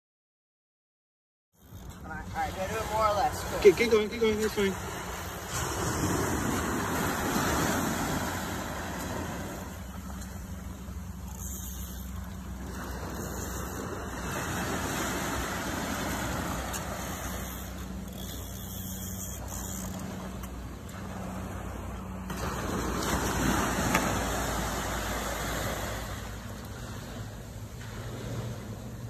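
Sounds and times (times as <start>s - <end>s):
ocean surf breaking on sand: 2.0s - 11.1s, 12.6s - 18.0s, 19.4s - 29.0s.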